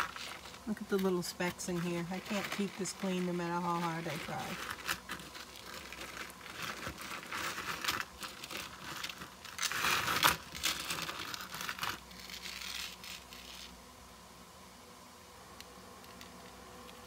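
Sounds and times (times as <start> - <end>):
beaded necklace rustling: 0.0 - 13.7.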